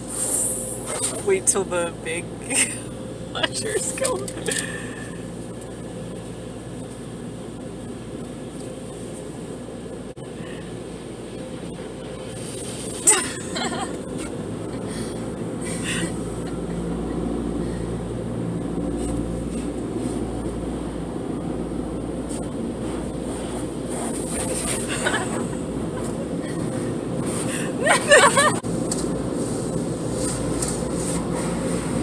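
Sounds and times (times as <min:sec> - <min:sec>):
car wash machinery rumbling: 0:00.0 - 0:32.0.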